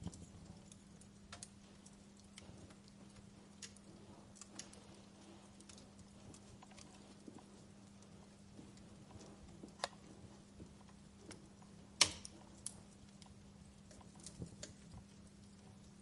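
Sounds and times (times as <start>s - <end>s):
campfire crackling and popping: 0.0s - 16.0s
faint steady hum: 0.0s - 16.0s.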